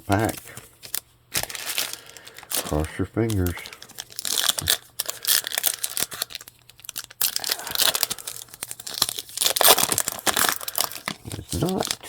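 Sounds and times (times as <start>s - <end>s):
card pack wrapper tearing and crinkling: 0.1s - 12.0s.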